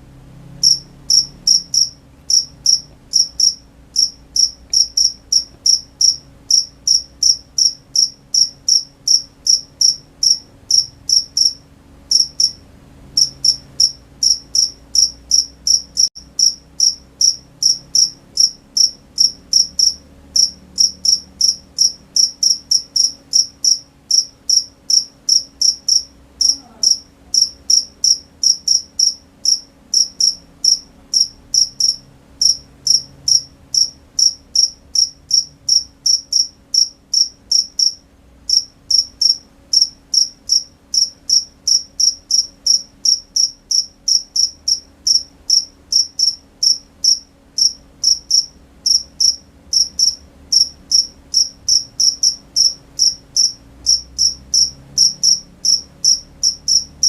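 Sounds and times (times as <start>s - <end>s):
faint low hum: 0.0s - 57.0s
cricket chirping: 0.5s - 57.0s.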